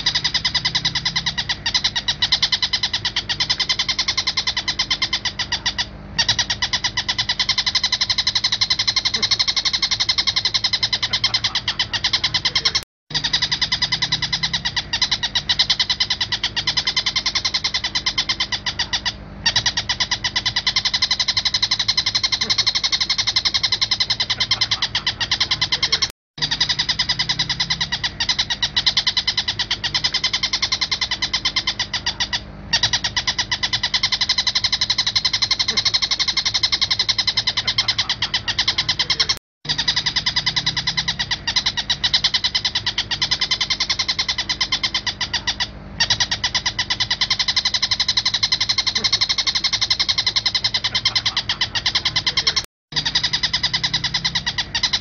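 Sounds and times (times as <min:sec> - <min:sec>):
bird calling repeated notes: 0:00.0 - 0:55.0.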